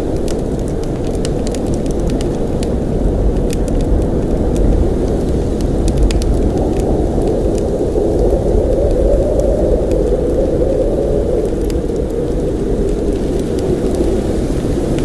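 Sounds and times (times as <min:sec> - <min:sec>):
blizzard wind blowing hard: 0:00.0 - 0:15.0.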